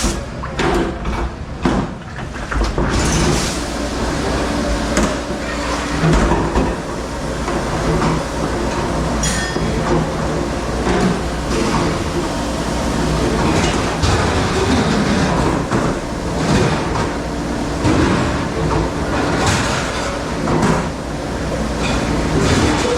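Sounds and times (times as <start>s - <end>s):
dish machine humming and spraying: 0.0s - 0.4s, 3.0s - 22.9s.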